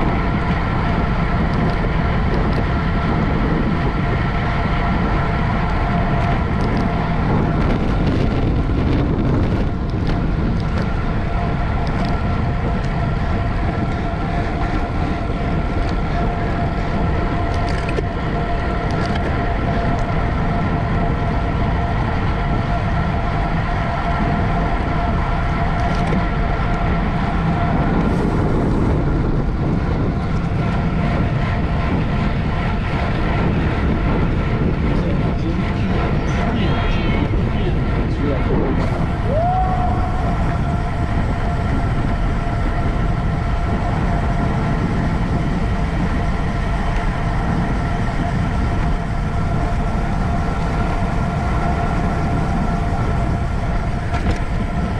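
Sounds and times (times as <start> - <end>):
bicycle road rumble: 0.0 - 54.9
faint steady whine: 0.0 - 54.9
wind rush: 0.0 - 54.9.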